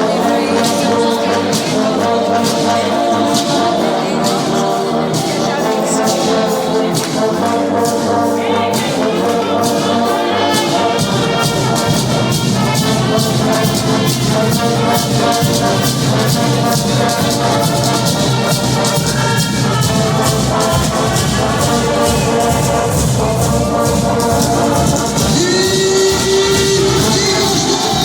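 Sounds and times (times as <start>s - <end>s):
brass music: 0.0s - 28.0s
steady percussion beat: 0.0s - 28.0s.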